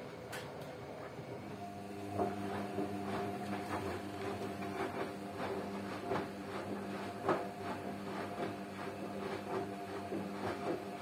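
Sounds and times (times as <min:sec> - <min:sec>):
washing machine motor hum: 0:00.0 - 0:11.0
laundry tumbling knocks: 0:02.1 - 0:11.0.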